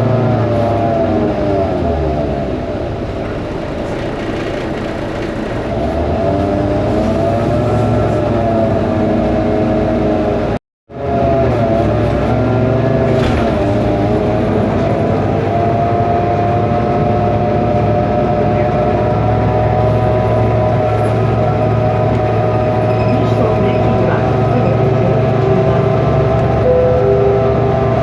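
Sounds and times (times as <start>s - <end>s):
bus engine droning with whine: 0.0s - 28.0s.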